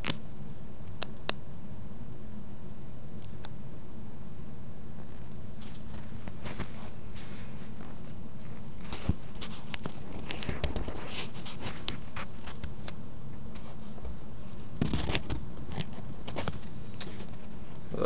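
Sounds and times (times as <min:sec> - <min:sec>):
low hum and hiss: 0:00.0 - 0:18.0.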